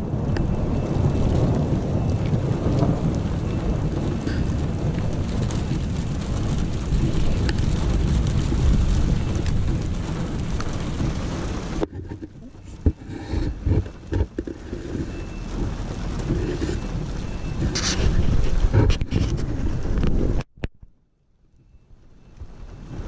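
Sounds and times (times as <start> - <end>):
heavy rain on a vehicle: 0.0 - 20.5, 21.2 - 23.0
thunder rumbling: 0.0 - 20.5, 21.6 - 23.0.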